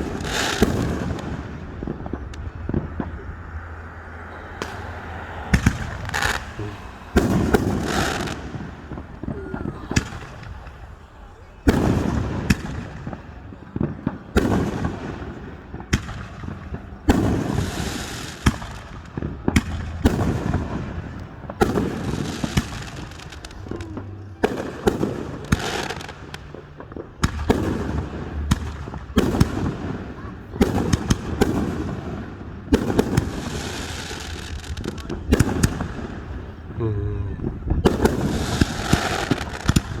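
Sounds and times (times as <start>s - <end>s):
low rumbling echo: 0.0s - 39.6s
fireworks bangs: 0.0s - 40.0s.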